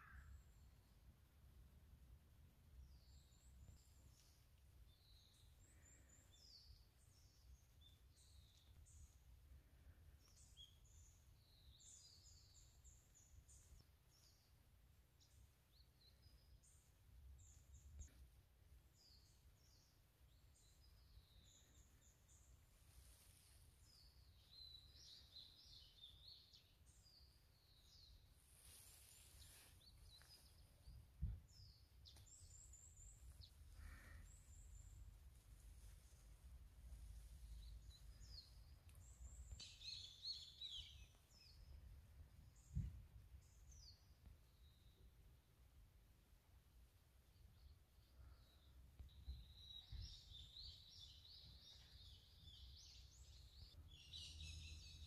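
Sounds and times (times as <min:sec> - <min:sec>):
small birds chirping: 0:00.0 - 0:01.9, 0:02.5 - 0:46.0, 0:47.1 - 0:55.0.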